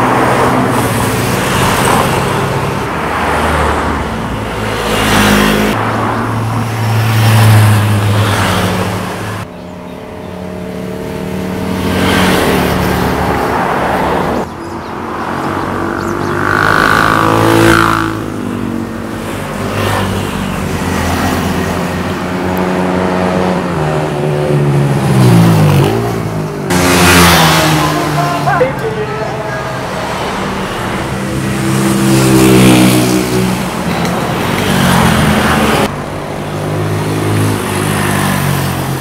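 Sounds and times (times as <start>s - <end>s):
motorcycle engines revving and passing: 0.0s - 39.0s.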